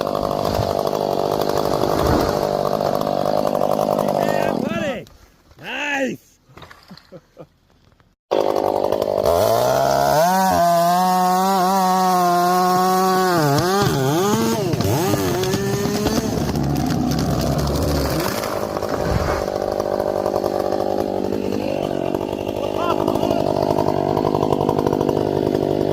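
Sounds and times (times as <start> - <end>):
chainsaw cutting wood: 0.0 - 5.0, 8.3 - 25.9.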